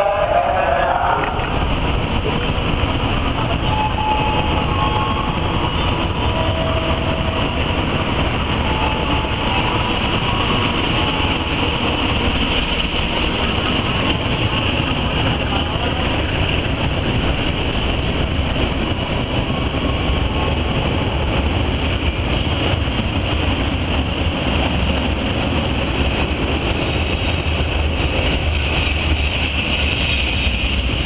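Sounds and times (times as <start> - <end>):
diesel locomotive: 0.0 - 31.0
train wheels on track: 0.0 - 31.0.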